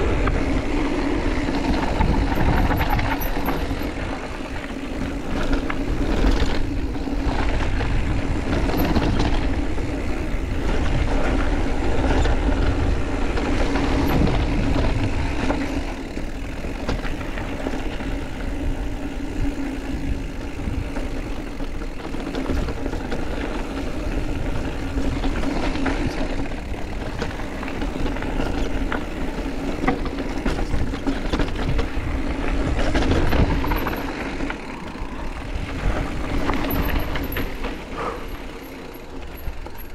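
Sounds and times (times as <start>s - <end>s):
bike rattles and clicks: 0.0s - 39.9s
wind and tyres rumbling: 0.0s - 39.9s.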